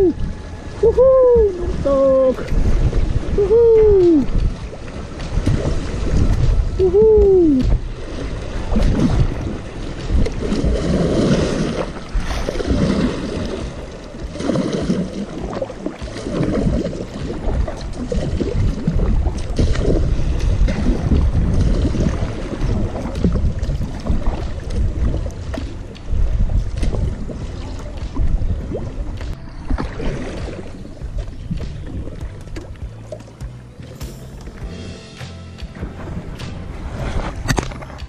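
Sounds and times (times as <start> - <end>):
wind rumble on microphone: 0.0 - 35.0, 35.6 - 38.0
paddle strokes splashing: 0.0 - 38.0
water rushing: 0.0 - 38.0.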